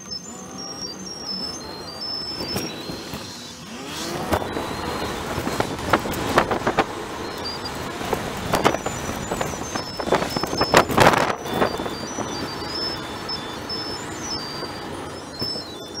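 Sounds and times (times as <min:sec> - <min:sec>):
road and engine noise: 0:00.0 - 0:16.0.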